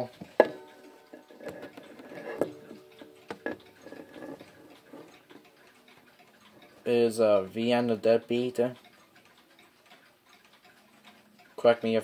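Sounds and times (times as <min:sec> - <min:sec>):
wall clock ticking: 0:00.0 - 0:12.0.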